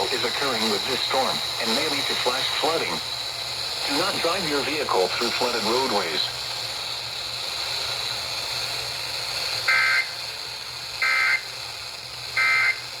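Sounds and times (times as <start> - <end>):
broadcast hiss: 0.0 - 13.0.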